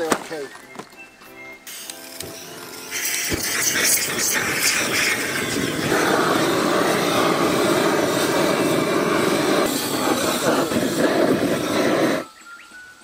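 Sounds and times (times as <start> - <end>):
gas torch jet roaring: 1.6 - 12.3.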